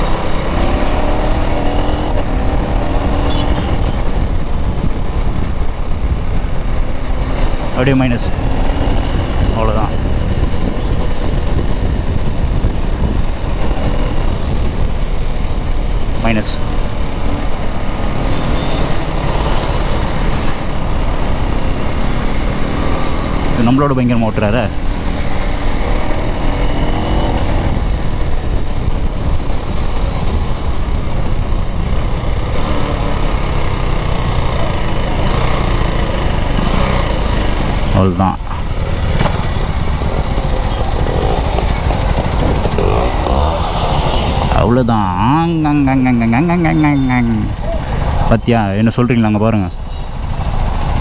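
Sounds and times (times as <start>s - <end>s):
wind rumble on microphone: 0.0s - 23.6s, 24.6s - 45.4s
motorcycle engine running: 0.0s - 48.3s.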